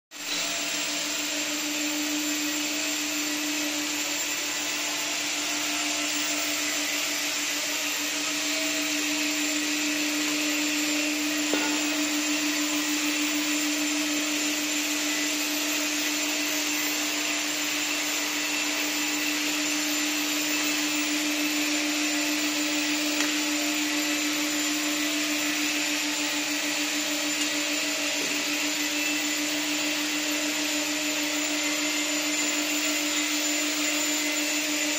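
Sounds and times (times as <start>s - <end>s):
hydraulic pump humming: 0.2s - 34.9s.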